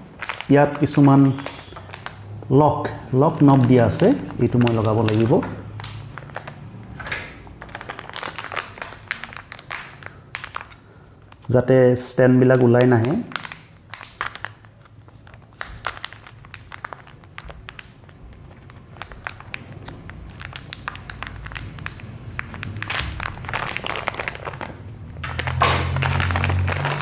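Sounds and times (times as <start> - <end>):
plastic crinkling: 0.0 - 11.7, 12.5 - 27.0.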